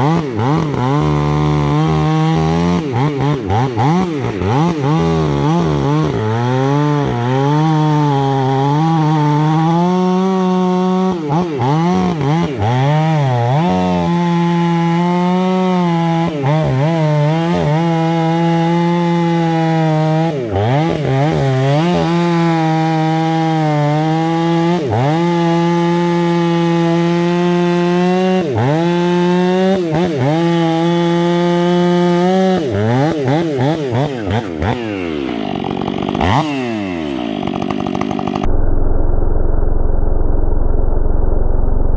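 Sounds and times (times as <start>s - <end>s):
chainsaw cutting wood: 0.0s - 38.5s.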